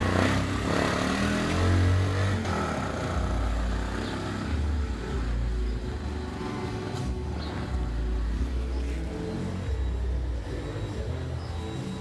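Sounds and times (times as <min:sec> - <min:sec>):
road noise: 0:00.0 - 0:12.0
vehicle engine rumbling: 0:00.0 - 0:12.0.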